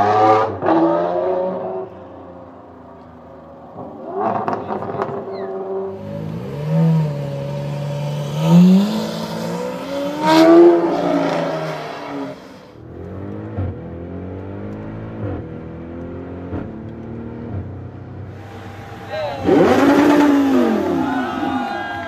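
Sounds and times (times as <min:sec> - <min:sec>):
car engine revving: 0:03.6 - 0:22.0.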